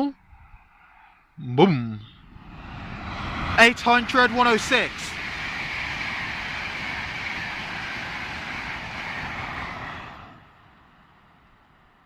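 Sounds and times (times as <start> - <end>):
high-speed train passing: 2.2 - 12.0.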